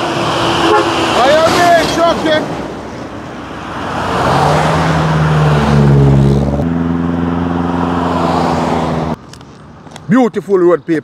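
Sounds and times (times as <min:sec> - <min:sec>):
car passing at highway speed: 0:00.0 - 0:09.2.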